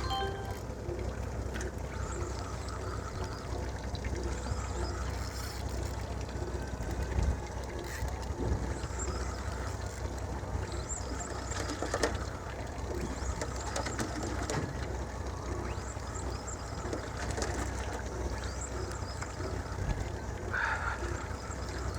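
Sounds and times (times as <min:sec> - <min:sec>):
boat engine rumble: 0:00.0 - 0:21.9.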